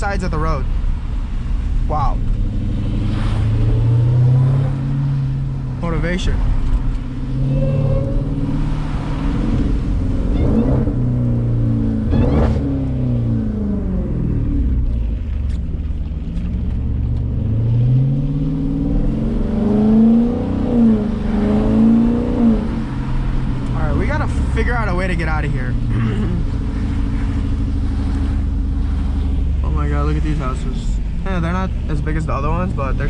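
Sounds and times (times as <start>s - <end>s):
car engine accelerating: 0.1s - 33.0s.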